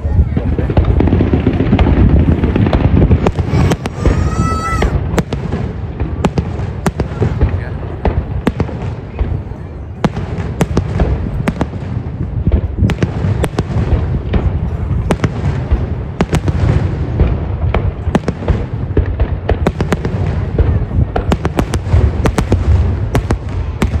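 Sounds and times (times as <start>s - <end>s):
fireworks bangs and crackles: 0.0s - 24.0s
low rumble of booms: 0.0s - 24.0s.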